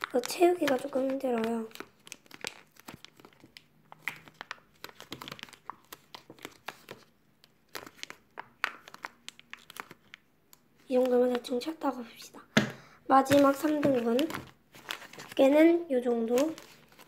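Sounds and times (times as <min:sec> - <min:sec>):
plastic bag crinkling: 0:00.0 - 0:11.7, 0:13.2 - 0:17.0.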